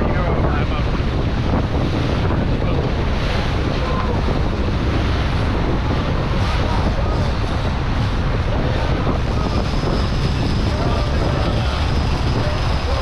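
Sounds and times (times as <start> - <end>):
boat engine running: 0.0 - 13.0
sea water rushing: 0.0 - 13.0
wind buffeting microphone: 0.0 - 13.0.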